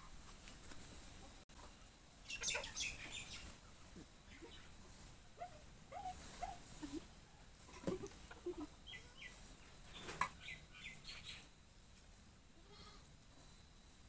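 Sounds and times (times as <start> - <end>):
chickens clucking: 0.0 - 11.4.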